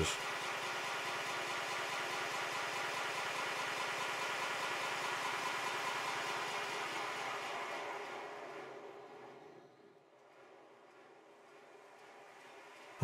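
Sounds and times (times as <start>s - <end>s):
model steam locomotive running: 0.0s - 13.0s.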